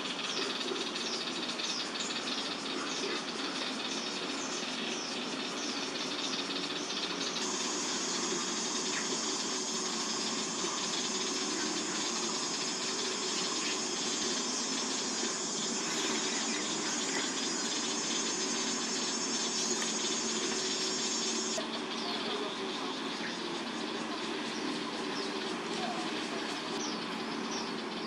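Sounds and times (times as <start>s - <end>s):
distant traffic hum: 0.0s - 28.0s
high insect drone: 0.0s - 28.0s.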